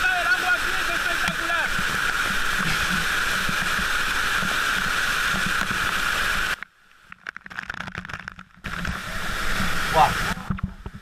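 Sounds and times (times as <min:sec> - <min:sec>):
waterfall rushing: 0:00.0 - 0:06.6, 0:08.7 - 0:11.0
crackles and pops: 0:01.2 - 0:11.0.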